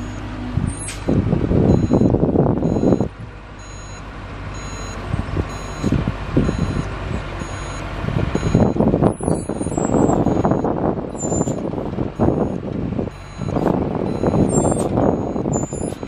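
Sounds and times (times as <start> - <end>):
truck engine rumble: 0.0 - 16.0
reverse alarm beeping: 1.7 - 7.8, 8.4 - 11.6, 12.2 - 16.0.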